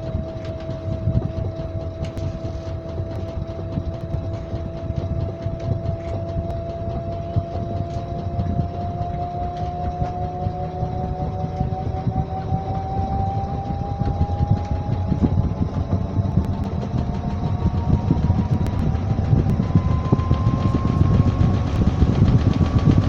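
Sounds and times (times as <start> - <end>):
low rumble: 0.0 - 23.0
washing machine motor whine: 0.0 - 23.0.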